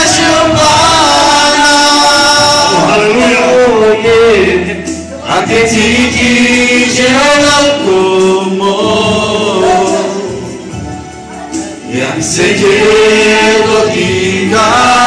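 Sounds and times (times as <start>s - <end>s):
man singing over loudspeakers: 0.0s - 10.7s, 11.5s - 15.0s.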